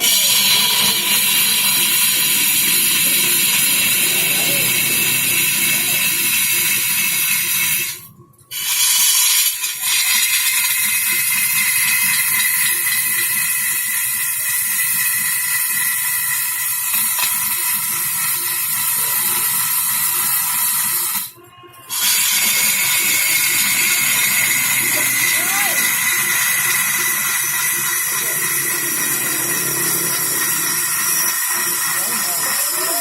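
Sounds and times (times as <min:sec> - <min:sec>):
wood lathe cutting wood: 0:00.0 - 0:33.0.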